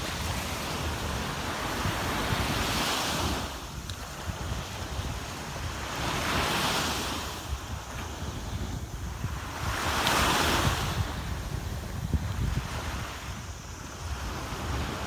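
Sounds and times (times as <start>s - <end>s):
small waves washing up shore: 0.0s - 15.0s
wind buffeting microphone: 0.0s - 15.0s.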